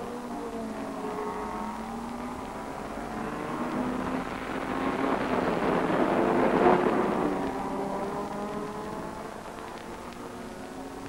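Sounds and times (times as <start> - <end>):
racing car engine at high revs: 0.0 - 11.0.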